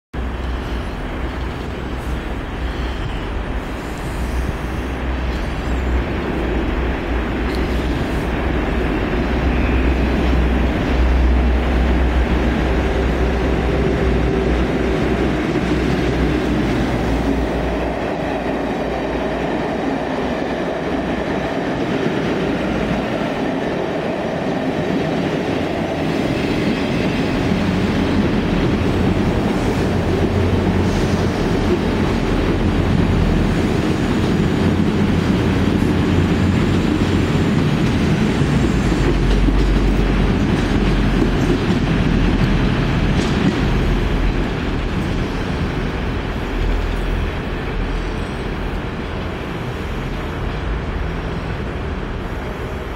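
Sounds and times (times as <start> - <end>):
diesel locomotive rumble: 0.1 - 52.9
train wheels on rails: 0.2 - 52.9.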